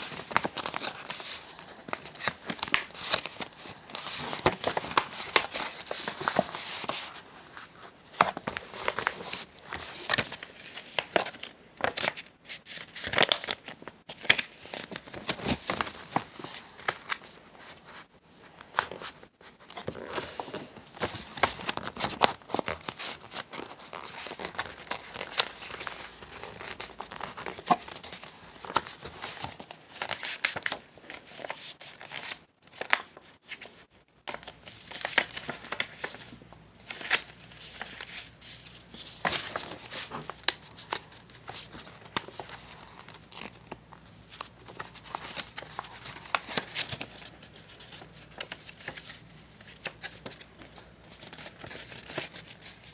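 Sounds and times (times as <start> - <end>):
paper crinkling and folding: 0.0 - 52.9.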